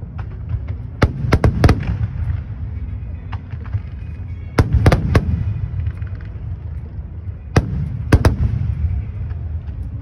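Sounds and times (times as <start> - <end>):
fireworks rumbling: 0.0 - 10.0
small fireworks pops: 0.0 - 10.0.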